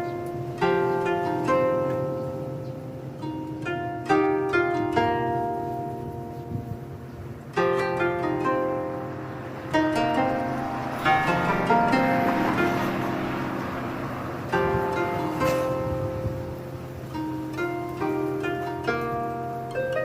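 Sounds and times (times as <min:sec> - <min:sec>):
plucked string music: 0:00.0 - 0:20.0.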